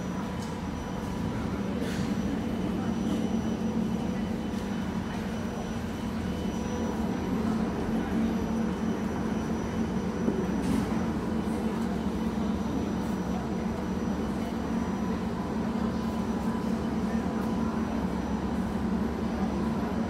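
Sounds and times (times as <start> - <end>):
electric train hum and rumble: 0.0 - 20.0.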